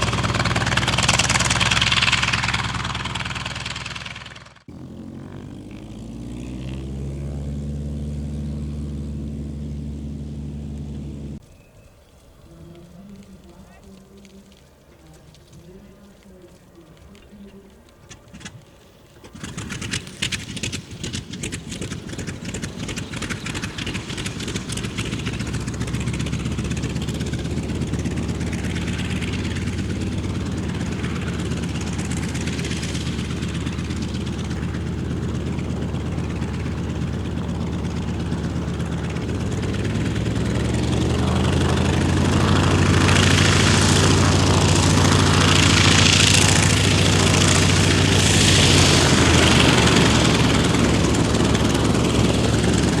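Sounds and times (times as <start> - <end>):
radial aircraft engine starting: 0.0 - 11.4, 12.3 - 53.0.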